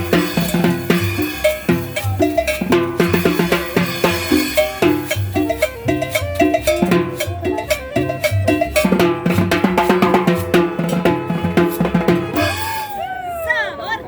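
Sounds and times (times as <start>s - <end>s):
drum kit steady beat: 0.0s - 13.3s
cumbia band music: 0.0s - 14.0s.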